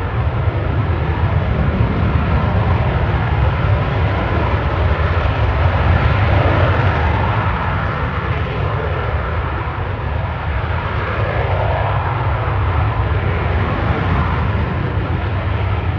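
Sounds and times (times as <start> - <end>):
jet engines rumbling: 0.0 - 15.9.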